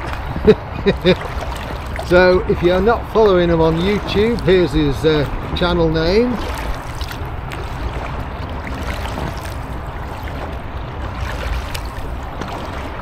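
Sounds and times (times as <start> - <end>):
kayak paddle strokes in water: 0.0 - 13.0
low rumble: 0.0 - 13.0
water trickling and splashing: 0.0 - 13.0.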